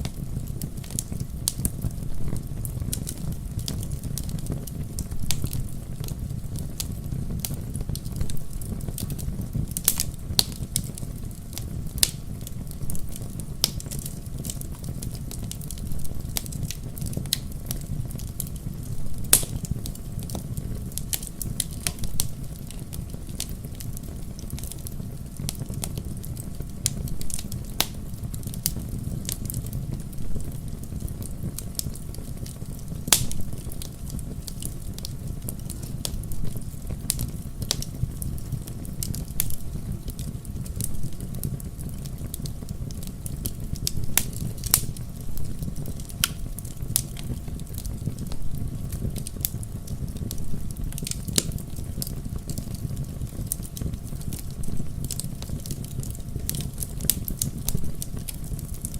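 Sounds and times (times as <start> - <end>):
fire crackling and popping: 0.0 - 58.9
low rumble of flames: 0.0 - 58.9.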